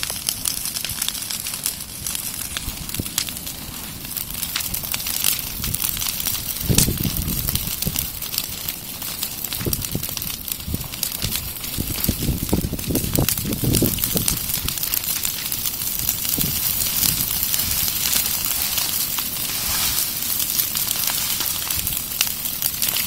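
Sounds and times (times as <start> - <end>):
bonfire crackling and popping: 0.0 - 23.0.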